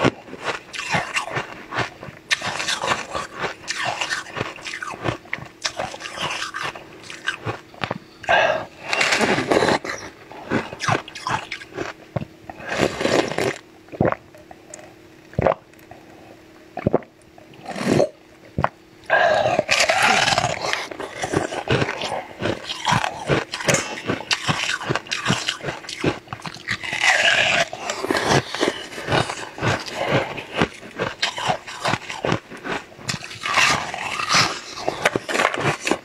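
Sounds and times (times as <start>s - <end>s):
ice crunching when chewed: 0.0s - 16.2s, 16.8s - 36.0s.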